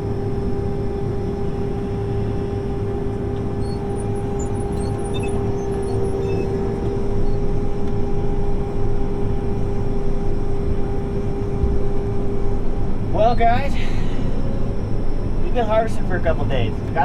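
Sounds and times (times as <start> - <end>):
combine engine drone: 0.0 - 17.0
steady whine: 0.0 - 17.0.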